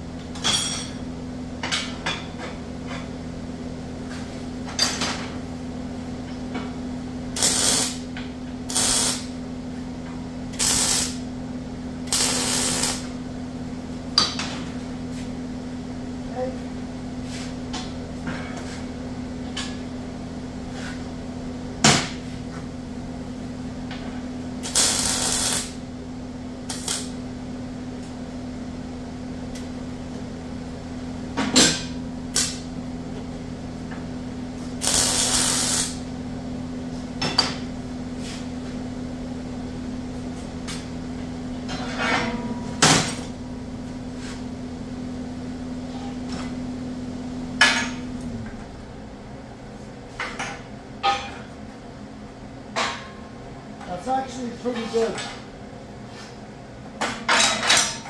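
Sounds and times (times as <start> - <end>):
machine hum: 2.6 - 54.8.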